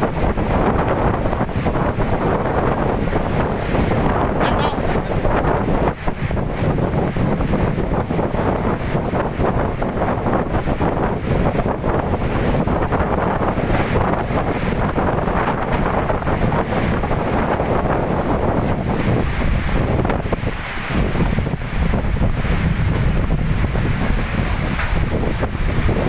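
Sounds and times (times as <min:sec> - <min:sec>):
strong wind buffeting microphone: 0:00.0 - 0:26.0.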